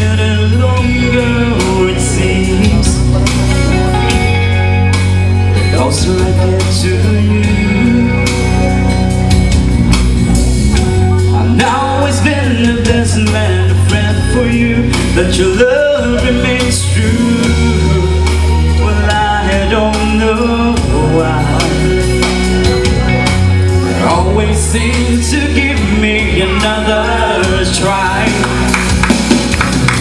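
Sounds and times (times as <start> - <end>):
man singing a pop-rock ballad: 0.0 - 9.6, 10.7 - 29.0
guitar: 0.0 - 30.0
steady bass line: 0.0 - 30.0.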